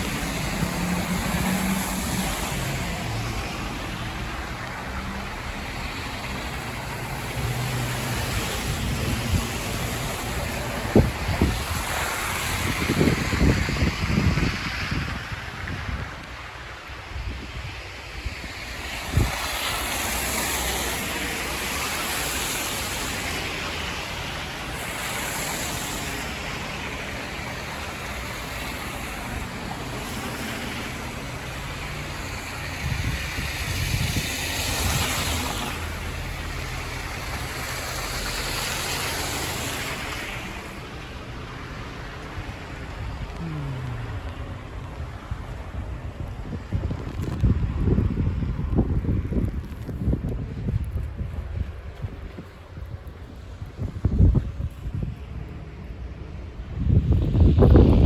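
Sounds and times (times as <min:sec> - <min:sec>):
city street noise: 0:00.0 - 0:58.0
wind gusting against microphone: 0:00.0 - 0:58.0.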